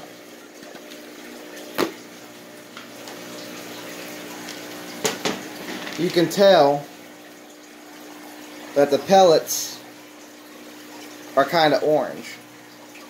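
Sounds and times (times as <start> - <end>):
filter water trickling: 0.0 - 13.0
motor hum: 0.0 - 13.0.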